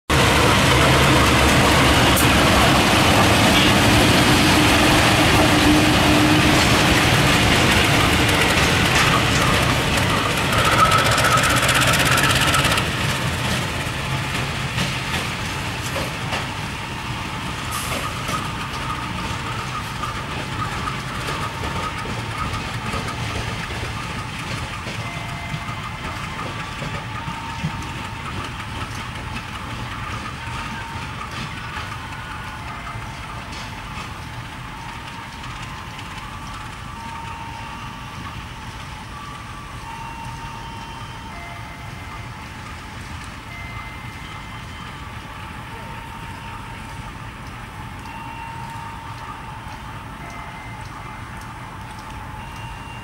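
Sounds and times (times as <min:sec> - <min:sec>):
diesel locomotive engines running: 0:00.1 - 0:53.0
train running on rails: 0:00.1 - 0:53.0.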